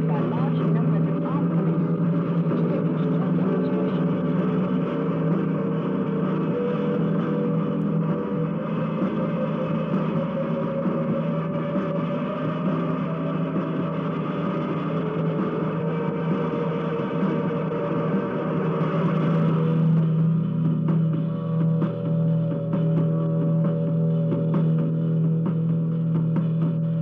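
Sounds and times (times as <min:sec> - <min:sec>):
faint music: 0:00.0 - 0:27.0
mechanical drone: 0:00.0 - 0:27.0.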